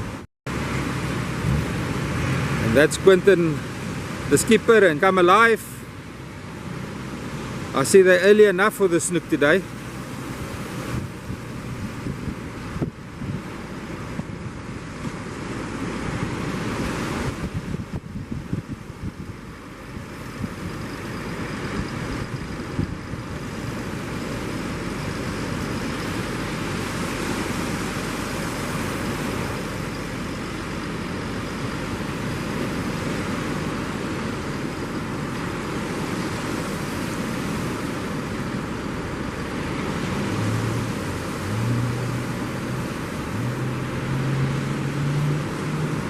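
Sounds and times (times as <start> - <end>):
low engine hum: 0.0 - 46.0
surf: 0.0 - 46.0
wind: 0.0 - 46.0.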